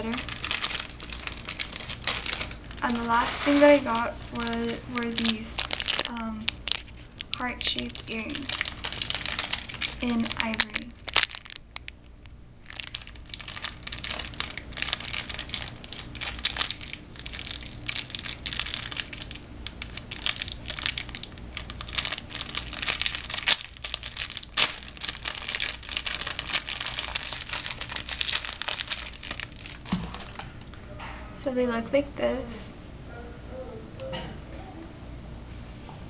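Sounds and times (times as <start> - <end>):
plastic bag crinkling: 0.0 - 30.8.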